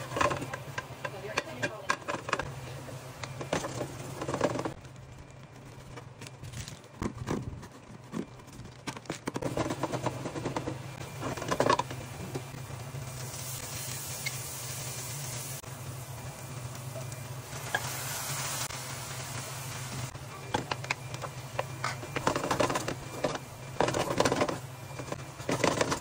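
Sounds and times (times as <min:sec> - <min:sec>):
frying sizzle: 0:00.0 - 0:05.9, 0:09.4 - 0:26.0.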